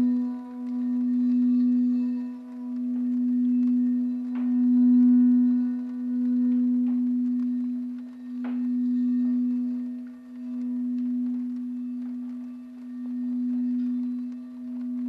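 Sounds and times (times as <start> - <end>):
singing bowl tone: 0.0 - 15.0.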